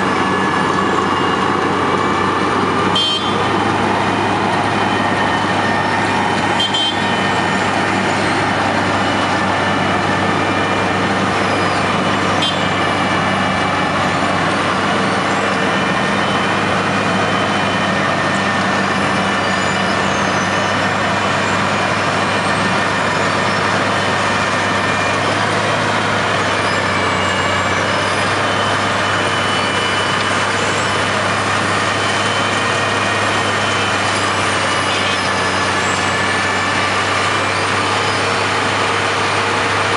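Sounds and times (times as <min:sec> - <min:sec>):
diesel machinery engine drone: 0:00.0 - 0:39.9.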